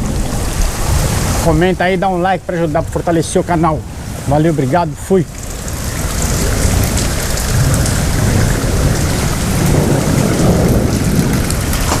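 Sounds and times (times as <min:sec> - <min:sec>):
thunder rumbling: 0:00.0 - 0:04.3, 0:05.3 - 0:12.0
rain falling: 0:00.0 - 0:12.0.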